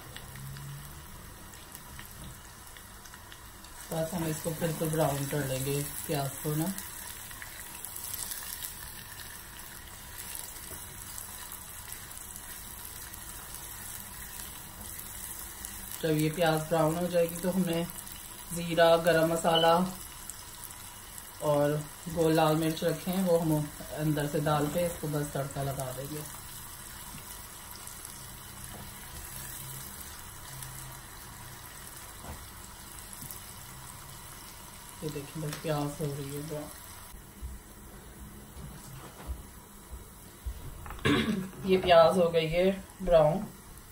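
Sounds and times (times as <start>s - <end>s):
onion sizzling in oil: 0.0s - 43.9s.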